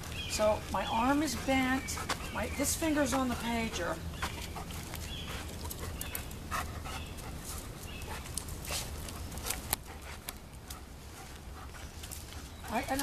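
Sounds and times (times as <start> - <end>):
dog panting: 0.9 - 13.0.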